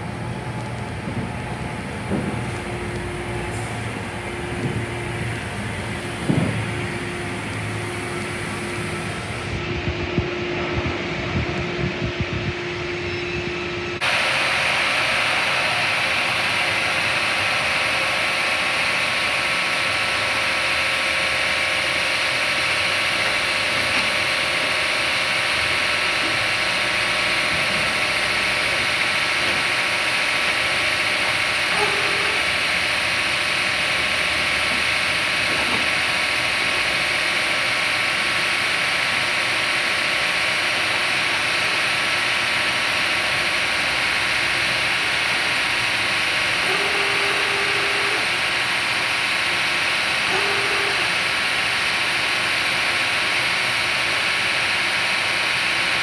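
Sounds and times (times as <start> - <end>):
steady hum: 0.0 - 55.3
sawmill machinery din: 0.0 - 56.0.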